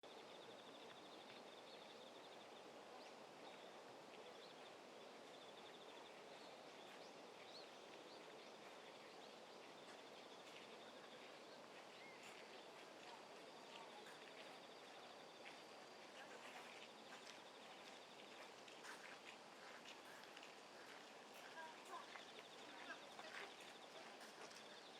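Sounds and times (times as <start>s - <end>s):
faint chirps and ticks: 0.1s - 24.9s.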